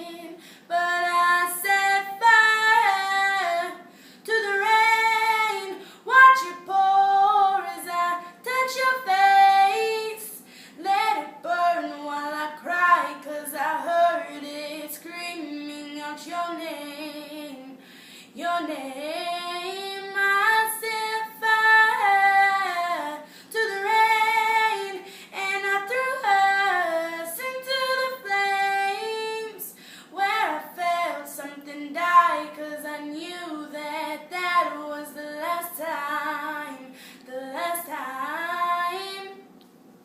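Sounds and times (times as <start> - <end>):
woman singing: 0.0 - 39.4.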